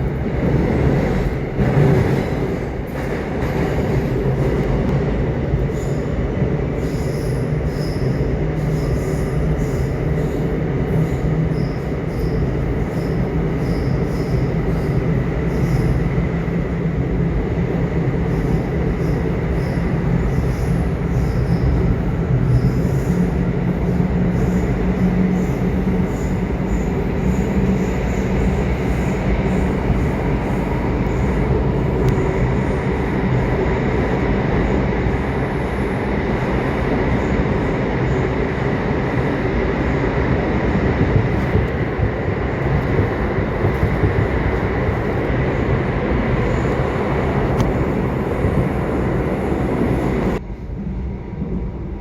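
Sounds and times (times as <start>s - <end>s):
subway train rumbling: 0.0s - 52.0s.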